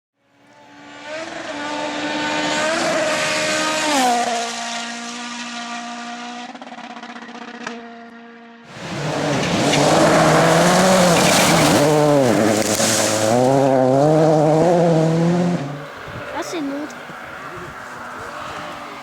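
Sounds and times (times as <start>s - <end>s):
rally car engine at high revs: 0.4s - 19.0s.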